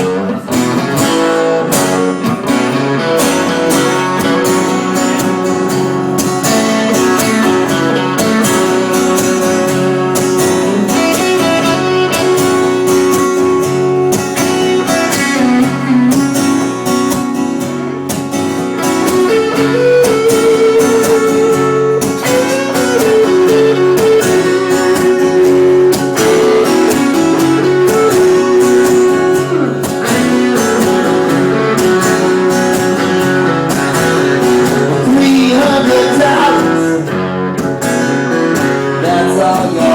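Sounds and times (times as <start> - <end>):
strummed blues guitar: 0.0 - 39.9.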